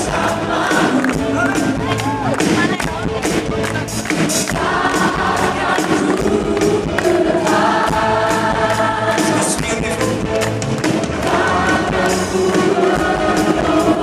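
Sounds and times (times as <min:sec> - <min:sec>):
choir singing gospel: 0:00.0 - 0:01.8, 0:04.3 - 0:14.0
band accompaniment: 0:00.0 - 0:14.0
steady drum beat: 0:00.0 - 0:14.0.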